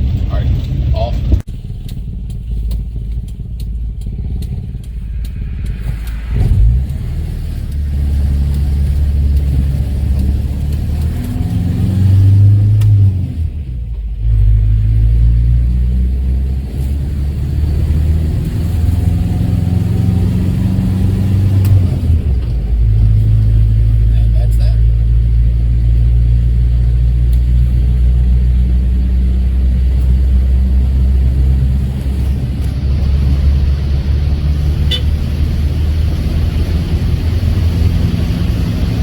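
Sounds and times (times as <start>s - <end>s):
car engine under load: 0.0s - 39.0s.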